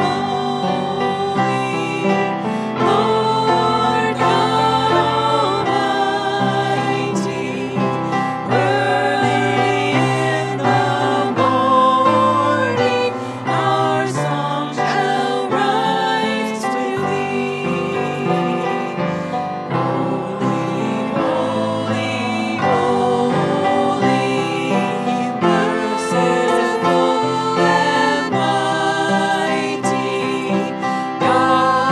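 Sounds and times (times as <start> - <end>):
choir singing gospel: 0.0 - 31.9
keyboard accompaniment: 0.0 - 31.9.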